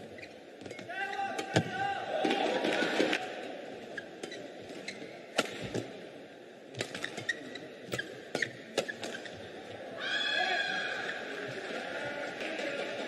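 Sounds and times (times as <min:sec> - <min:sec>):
murmur of sports hall: 0:00.0 - 0:13.0.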